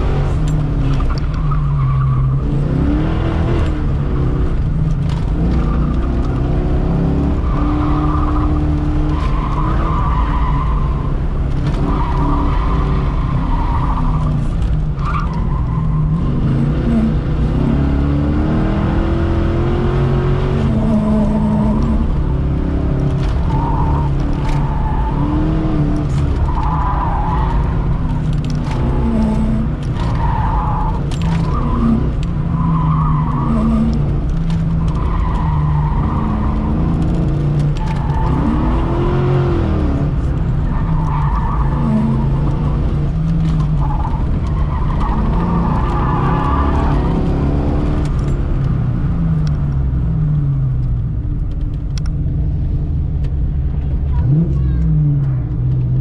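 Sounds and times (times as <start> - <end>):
tires squealing: 0.0 - 50.2
car engine running hard: 0.0 - 56.0.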